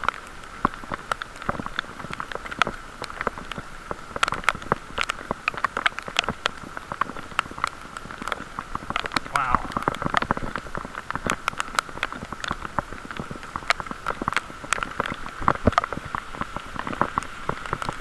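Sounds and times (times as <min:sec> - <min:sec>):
heavy rain: 0:00.0 - 0:18.0
raindrops striking microphone: 0:00.0 - 0:18.0.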